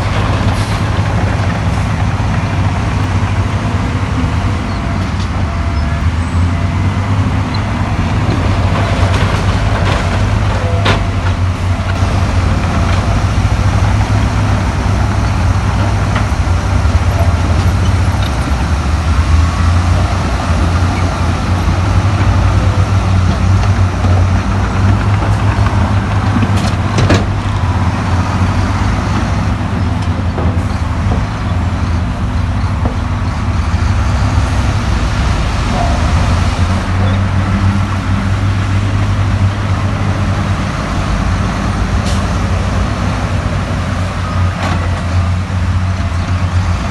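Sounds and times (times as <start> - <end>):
diesel engine drone: 0.0 - 46.9.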